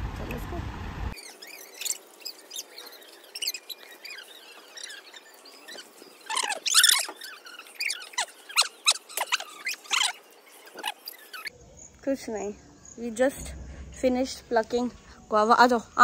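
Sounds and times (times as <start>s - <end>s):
birds chirping: 1.1s - 16.0s.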